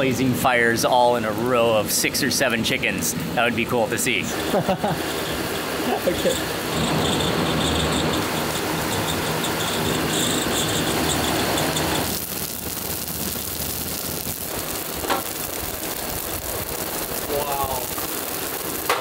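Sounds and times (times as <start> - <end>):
electric fans humming: 0.0 - 19.0
wood fire burning: 0.0 - 19.0.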